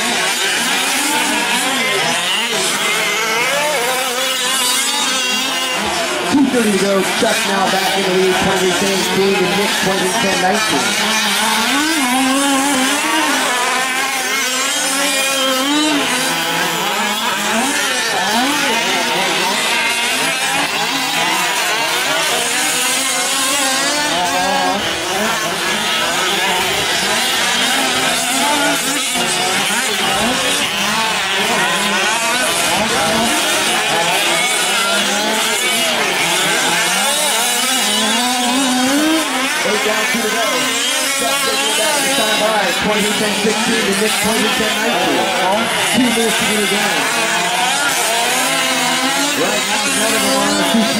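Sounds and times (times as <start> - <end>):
small two-stroke engines revving: 0.0 - 50.9.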